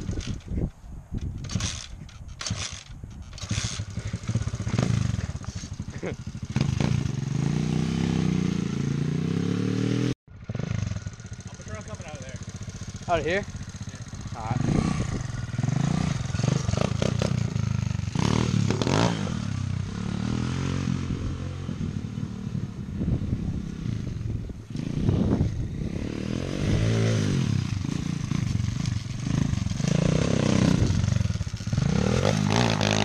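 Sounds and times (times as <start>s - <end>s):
small engine revving: 1.5s - 22.6s, 23.6s - 33.0s.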